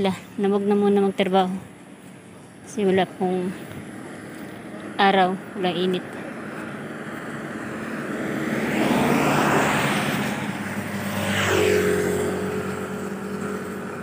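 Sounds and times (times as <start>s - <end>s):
motorcycle engine humming: 0.0s - 14.0s
cars passing on wet road: 1.7s - 14.0s.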